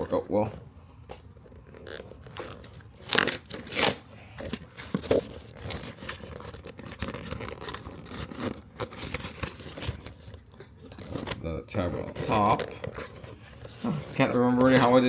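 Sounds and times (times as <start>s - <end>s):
cardboard scraping and crinkling: 0.0s - 15.0s
cardboard tearing: 1.3s - 15.0s.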